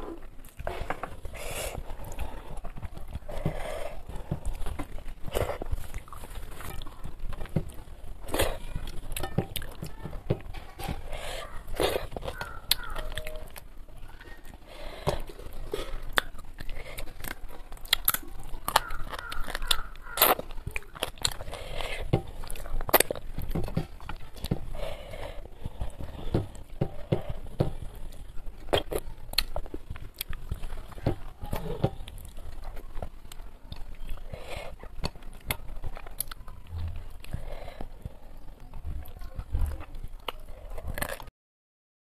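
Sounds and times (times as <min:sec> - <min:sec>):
person chewing: 0:00.0 - 0:41.3.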